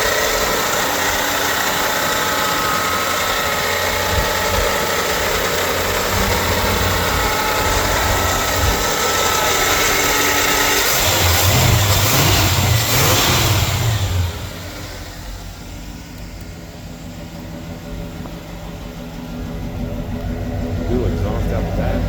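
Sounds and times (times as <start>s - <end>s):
pickup truck engine idling: 0.0s - 22.0s.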